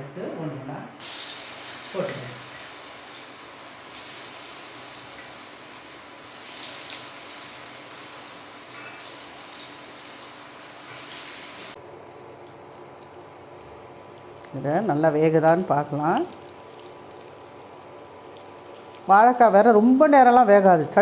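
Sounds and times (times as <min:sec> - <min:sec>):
banana slices sizzling in oil: 0:01.0 - 0:21.0.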